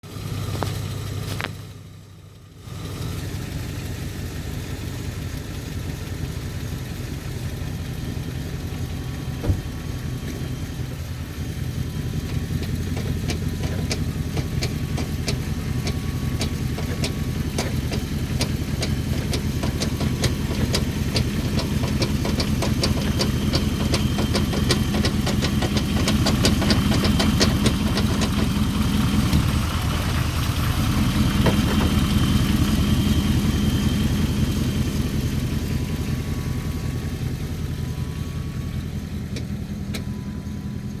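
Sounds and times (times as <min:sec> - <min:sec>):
car engine running: 0:00.0 - 0:41.0
engine knocking: 0:00.0 - 0:41.0.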